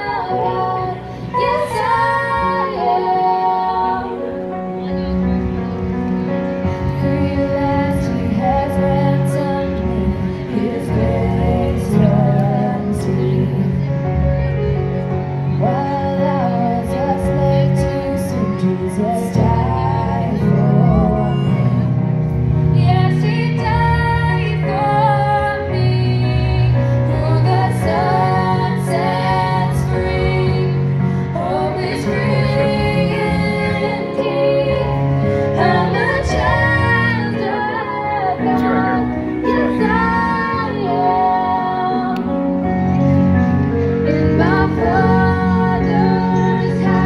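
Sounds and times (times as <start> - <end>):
girls singing into microphones: 0.0 - 5.1, 6.7 - 14.1, 15.5 - 42.8, 44.0 - 47.0.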